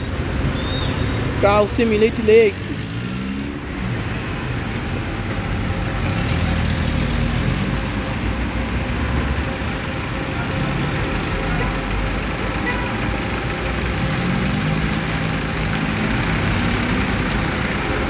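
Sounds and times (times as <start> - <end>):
car engines passing: 0.0 - 18.0
coach diesel engine rumbling: 0.0 - 18.0.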